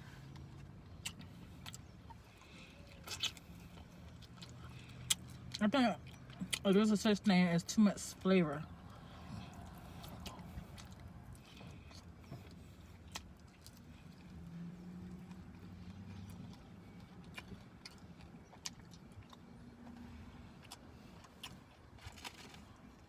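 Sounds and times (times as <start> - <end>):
chewing and lip smacking: 0.0 - 23.0
low steady hum: 0.0 - 23.0.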